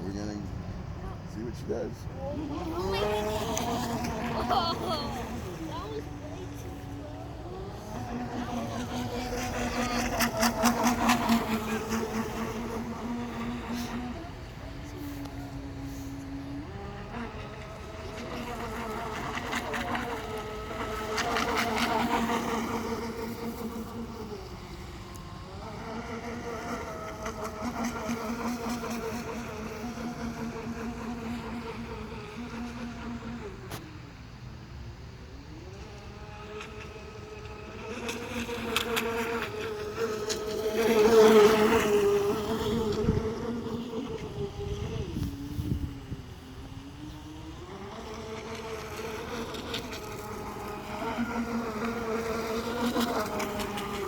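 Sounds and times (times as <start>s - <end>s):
model boat motor buzzing whine: 0.0s - 54.0s
water hissing along hull: 1.7s - 33.6s, 36.1s - 54.0s.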